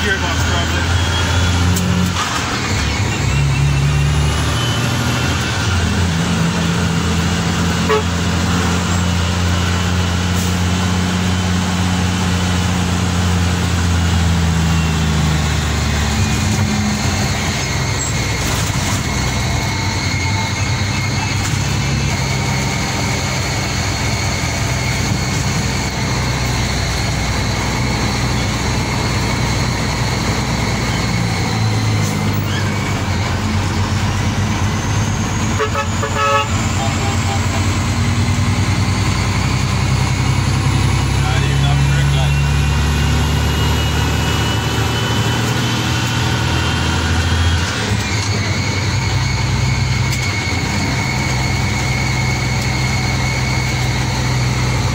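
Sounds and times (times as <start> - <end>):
road noise: 0.0 - 54.9
truck diesel engine running: 0.0 - 54.9.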